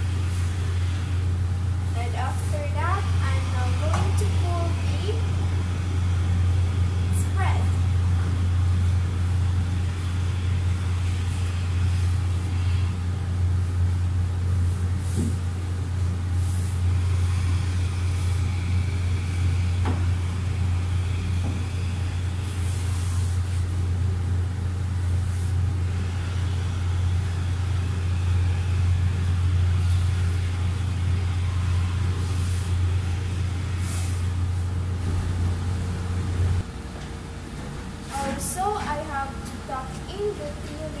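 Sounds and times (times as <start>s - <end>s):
steady low motor hum: 0.0s - 41.0s.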